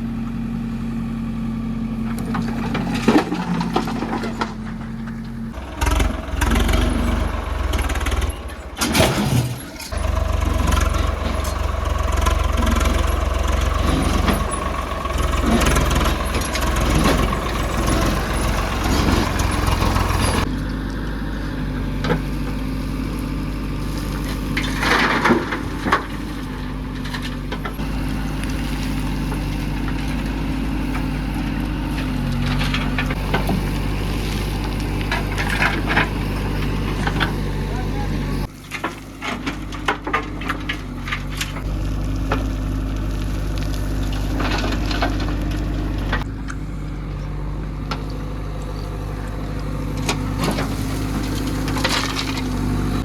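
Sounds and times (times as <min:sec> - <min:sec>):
diesel machinery engine running: 0:00.0 - 0:53.0.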